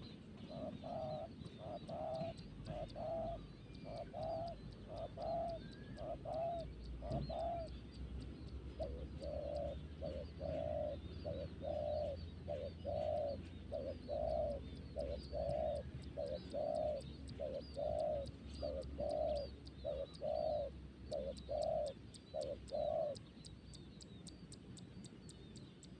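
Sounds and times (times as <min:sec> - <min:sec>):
dove cooing: 0:00.0 - 0:07.9, 0:08.6 - 0:23.2
faint high bird chirps: 0:00.0 - 0:26.0.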